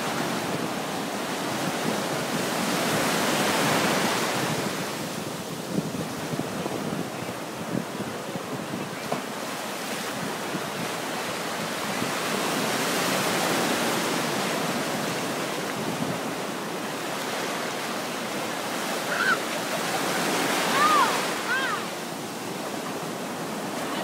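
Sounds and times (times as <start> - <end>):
ocean surf washing and breaking: 0.0 - 24.0.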